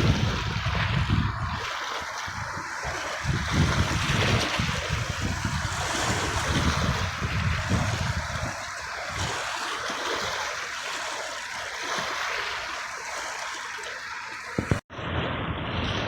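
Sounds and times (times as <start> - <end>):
sea water washing: 0.0 - 16.0.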